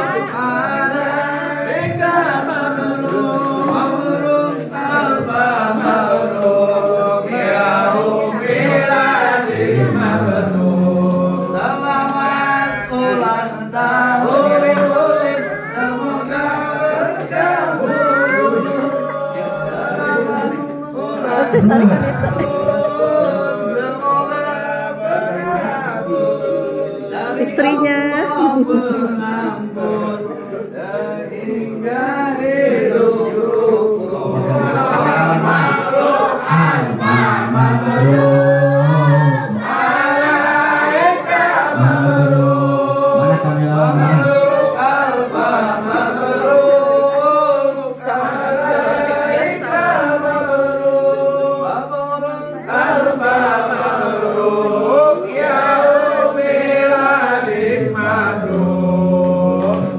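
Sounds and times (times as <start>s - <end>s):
group singing unaccompanied: 0.0s - 59.9s.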